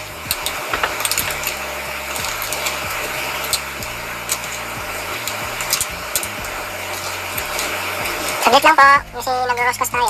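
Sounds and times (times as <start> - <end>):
steady rushing blower noise: 0.0 - 10.0.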